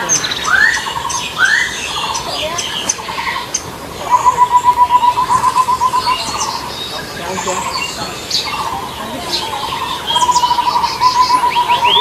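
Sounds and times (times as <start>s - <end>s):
bird fast trill: 0.0s - 12.0s
birds chirping: 0.0s - 12.0s.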